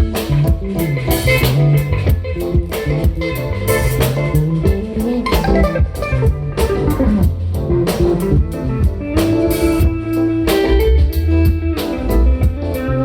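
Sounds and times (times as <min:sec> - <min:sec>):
bass: 0:00.0 - 0:13.0
drum kit steady beat: 0:00.0 - 0:13.0
guitar: 0:00.0 - 0:13.0.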